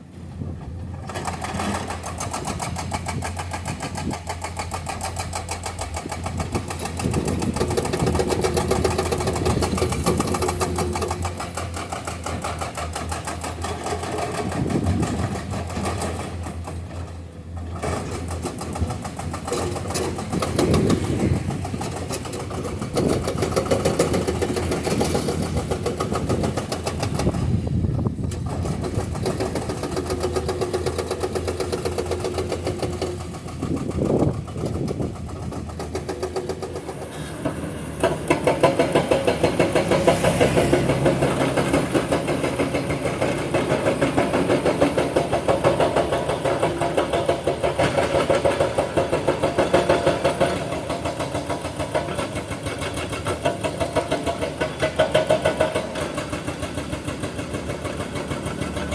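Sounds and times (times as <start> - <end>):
diesel engine running: 0.0 - 58.9
hydraulic breaker hammering rock: 1.1 - 58.9.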